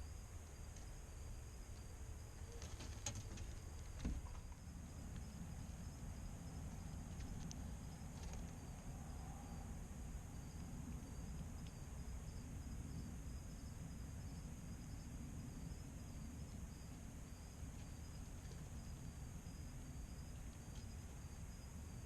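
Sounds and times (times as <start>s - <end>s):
insects chirring: 0.0s - 22.0s
low background rumble: 0.0s - 22.0s.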